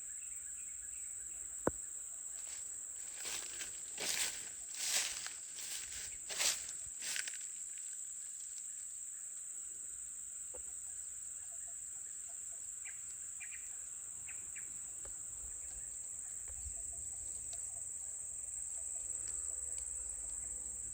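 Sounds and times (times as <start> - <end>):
insects droning: 0.0 - 20.9.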